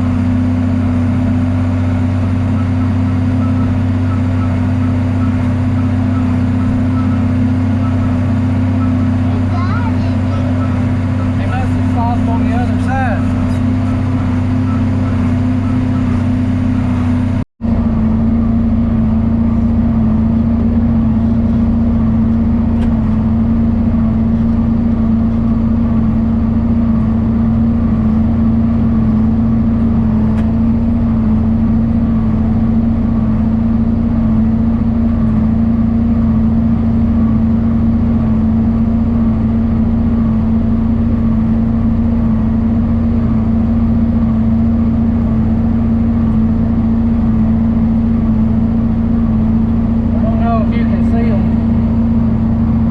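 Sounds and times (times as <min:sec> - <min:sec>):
diesel tractor engine droning: 0:00.0 - 0:52.9.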